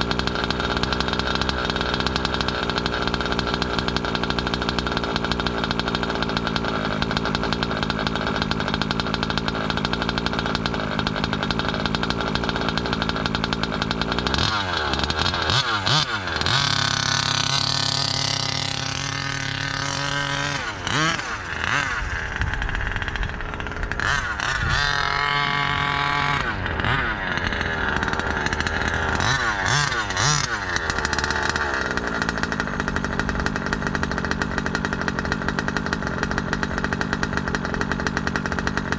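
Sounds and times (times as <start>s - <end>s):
two-stroke model engine revving: 0.0s - 38.9s.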